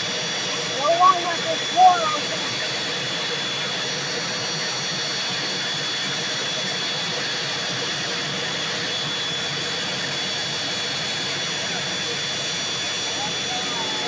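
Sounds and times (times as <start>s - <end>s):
aircraft turbine engine whining: 0.0s - 14.0s.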